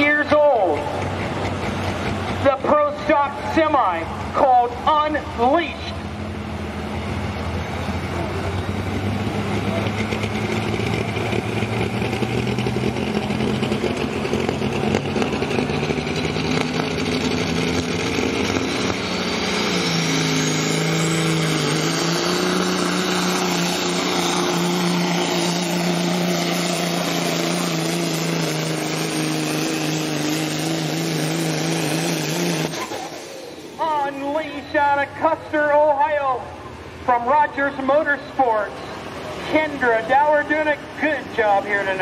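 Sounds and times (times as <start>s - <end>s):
diesel truck engine under load: 0.0s - 42.0s.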